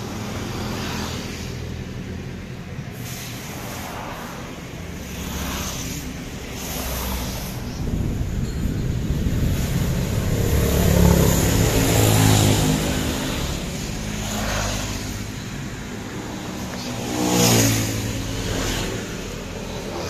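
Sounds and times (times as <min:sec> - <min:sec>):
steady rushing noise: 0:00.0 - 0:20.0
vehicle engine: 0:00.0 - 0:20.0.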